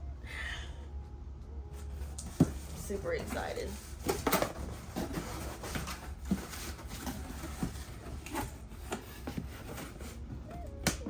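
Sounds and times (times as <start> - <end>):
cardboard and wrapping rustling: 1.7 - 11.0.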